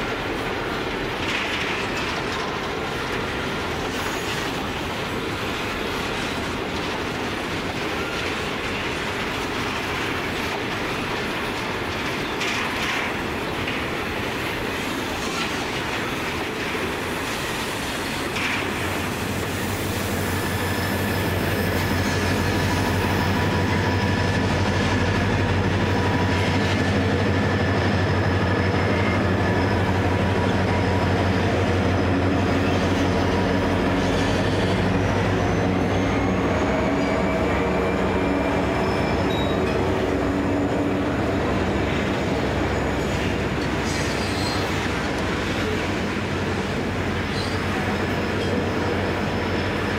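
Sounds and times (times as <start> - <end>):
diesel locomotive engines droning: 0.0 - 49.9.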